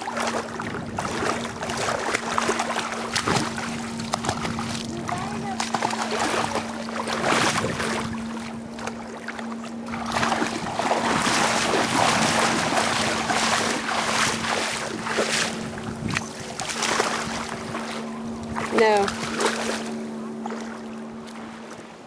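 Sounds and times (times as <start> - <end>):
low hum: 0.0 - 22.0
water splashing and sloshing: 0.0 - 22.0.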